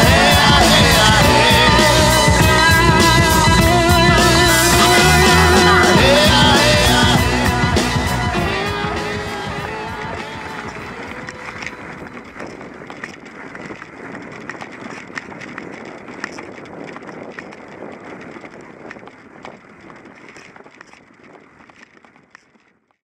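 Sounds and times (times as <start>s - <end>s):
wind on microphone: 0.0s - 22.4s
bike rattles and clicks: 0.0s - 23.0s
bike tyre rumbling on snow: 0.0s - 23.0s.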